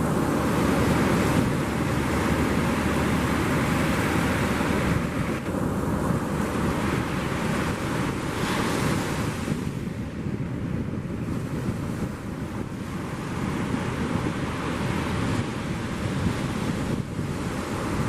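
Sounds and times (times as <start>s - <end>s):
ocean surf breaking: 0.0s - 10.4s, 11.0s - 18.0s
wind buffeting microphone: 0.0s - 18.0s.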